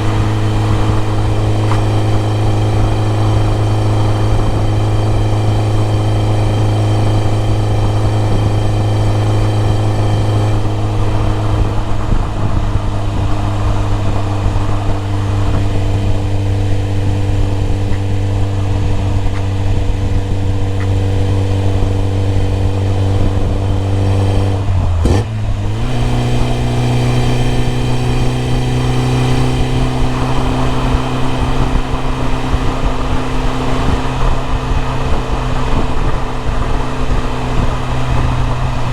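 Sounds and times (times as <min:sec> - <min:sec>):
four-cylinder engine running: 0:00.0 - 0:38.9.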